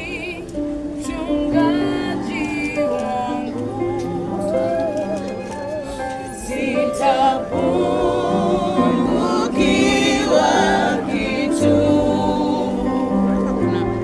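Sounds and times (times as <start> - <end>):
gospel choir singing: 0.0 - 14.0
steady low backing notes: 0.0 - 14.0.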